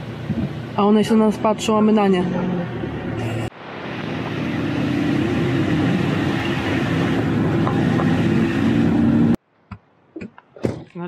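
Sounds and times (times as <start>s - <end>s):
car engine hum: 0.0s - 9.4s
road noise: 0.0s - 11.0s.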